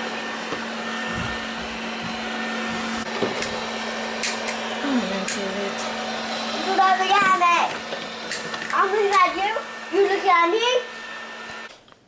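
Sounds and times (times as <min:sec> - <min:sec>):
robot vacuum cleaner whirring: 0:00.0 - 0:11.7.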